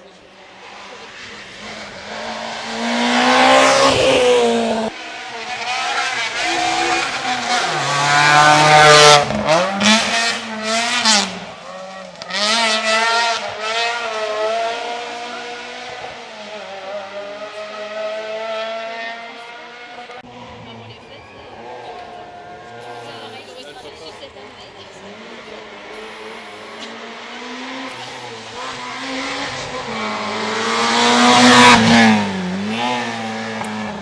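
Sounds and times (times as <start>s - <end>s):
rally car engines passing: 0.0s - 34.0s.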